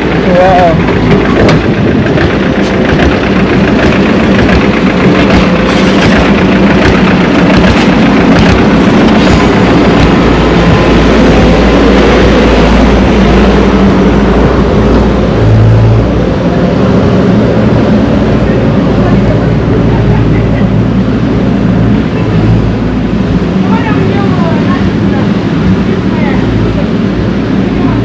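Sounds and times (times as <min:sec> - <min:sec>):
heavy machinery engine running: 0:00.0 - 0:28.0.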